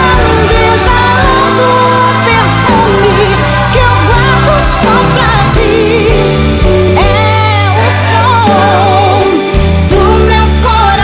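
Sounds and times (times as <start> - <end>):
backing track with bass and keyboards: 0.0 - 11.0
woman singing gospel song: 0.0 - 11.0.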